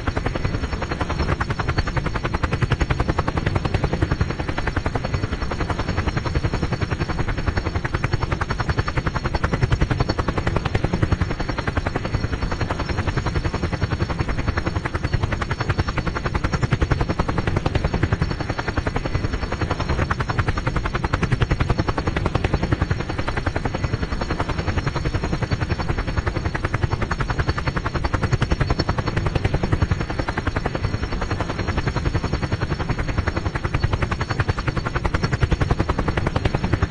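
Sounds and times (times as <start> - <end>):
helicopter rotor chop: 0.0 - 36.9.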